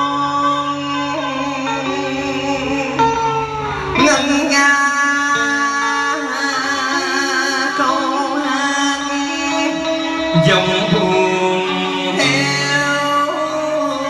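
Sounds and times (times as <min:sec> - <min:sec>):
slow song with wavering notes: 0:00.0 - 0:14.0.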